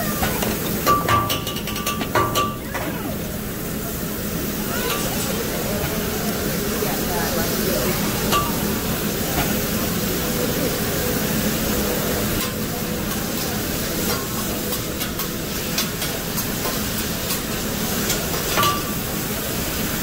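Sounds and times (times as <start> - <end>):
rice sizzling on griddle: 0.0 - 2.6, 3.2 - 20.0.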